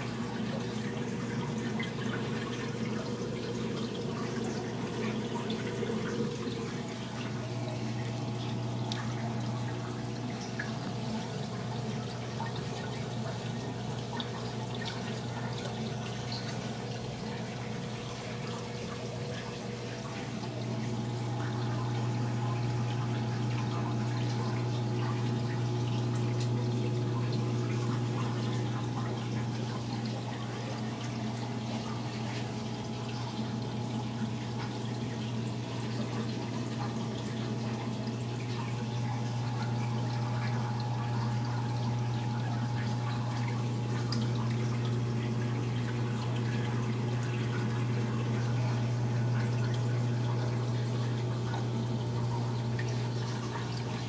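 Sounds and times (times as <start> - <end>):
pump humming: 0.0 - 54.0
water trickling and dripping: 0.0 - 54.0.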